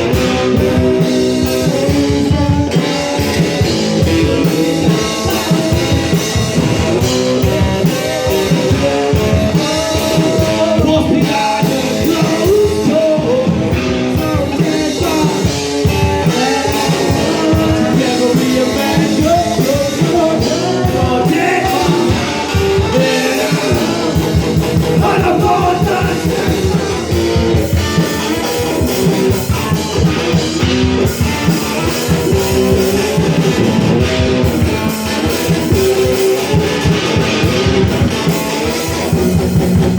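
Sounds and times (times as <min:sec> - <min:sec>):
person singing: 0:00.0 - 0:33.2
drum kit: 0:00.0 - 0:39.9
electric guitar: 0:00.0 - 0:39.9.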